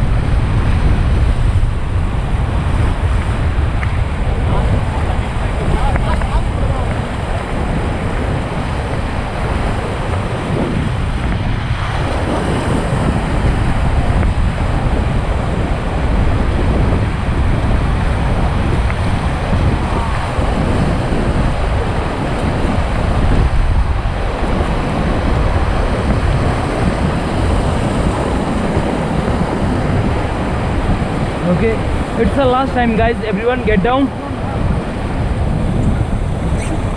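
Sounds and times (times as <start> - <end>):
whitewater roaring: 0.0 - 36.9
wind buffeting microphone: 0.0 - 36.9.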